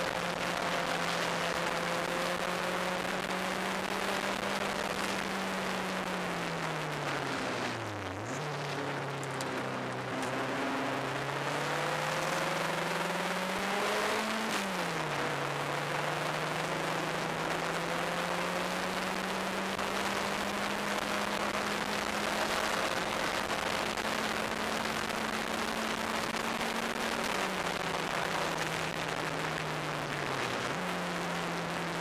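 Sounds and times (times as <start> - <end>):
turbocharged race car engine: 0.0 - 32.0.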